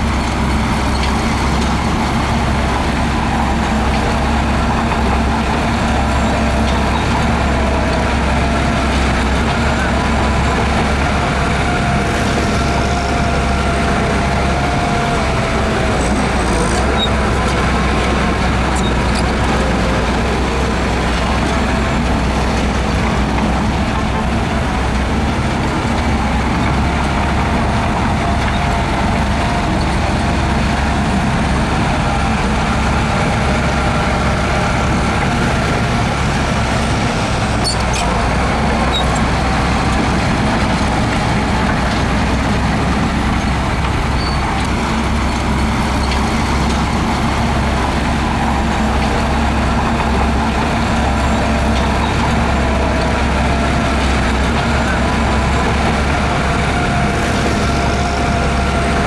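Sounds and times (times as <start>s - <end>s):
heavy diesel machinery rumble: 0.0s - 59.0s.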